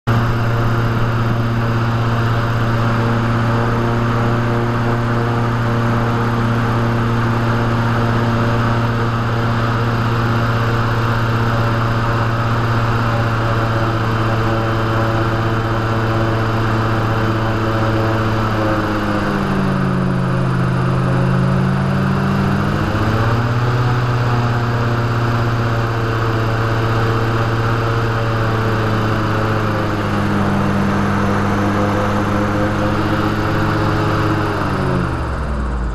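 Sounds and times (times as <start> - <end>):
airboat engine and propeller drone: 0.1 - 35.9.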